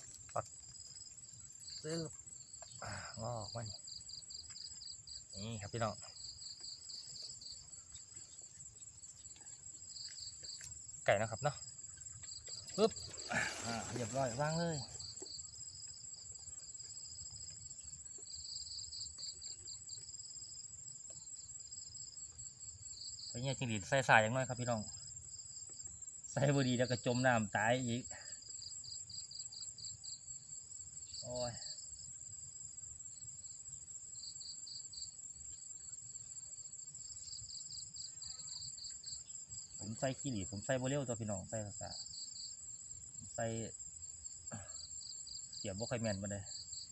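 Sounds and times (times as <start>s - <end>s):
insect trill chirping: 0.0s - 46.9s
insects buzzing: 0.0s - 46.9s.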